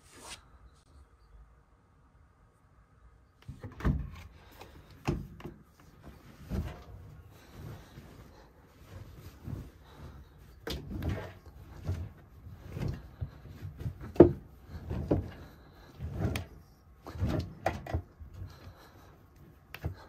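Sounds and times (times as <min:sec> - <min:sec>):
rustles and knocks: 0:03.4 - 0:20.0.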